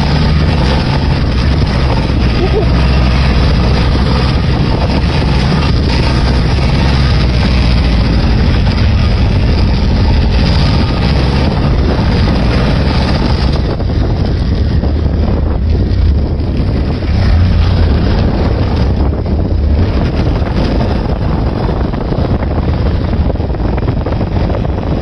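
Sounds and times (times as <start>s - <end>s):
vehicle engine running: 0.0s - 25.0s
wind buffeting microphone: 0.0s - 25.0s.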